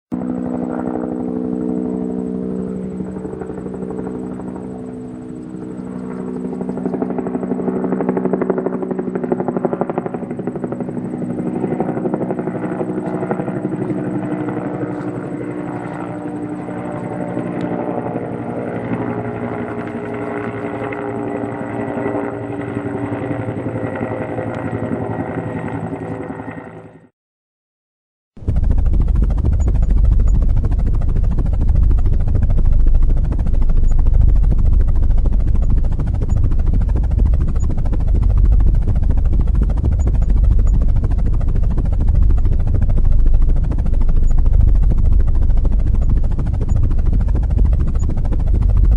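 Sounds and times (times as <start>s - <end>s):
helicopter flying past: 0.1s - 27.1s, 28.4s - 48.9s.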